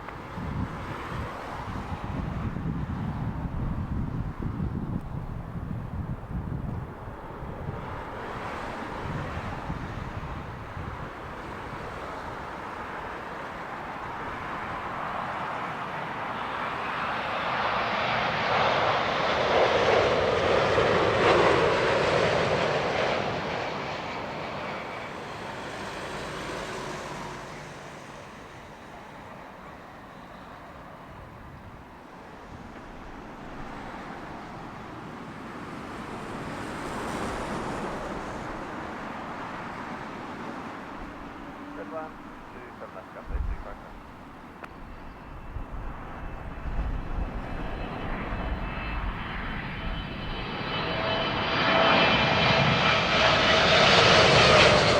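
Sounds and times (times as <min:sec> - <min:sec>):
jet airliner passing overhead: 0:00.0 - 0:54.9.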